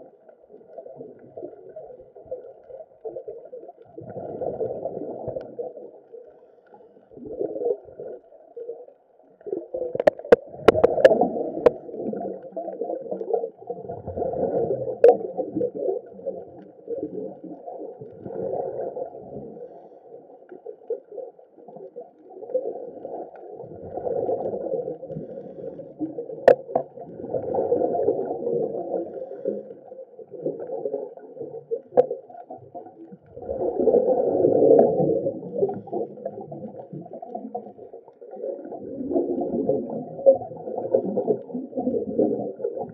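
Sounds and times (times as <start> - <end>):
muffled underwater sloshing and bubbling: 0.0 - 42.9.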